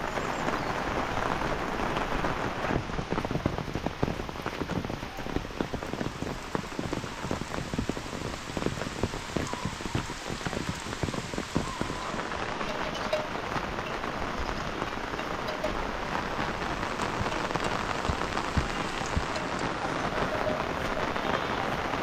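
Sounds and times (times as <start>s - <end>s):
heavy rain falling: 0.0s - 22.0s
raindrops pattering close by: 0.0s - 22.0s.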